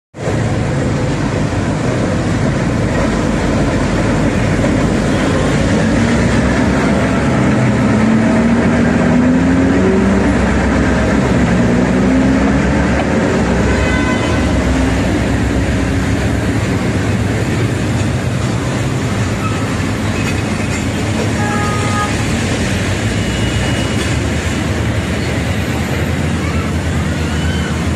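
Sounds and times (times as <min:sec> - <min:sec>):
diesel locomotive rumbling: 0:00.2 - 0:27.9.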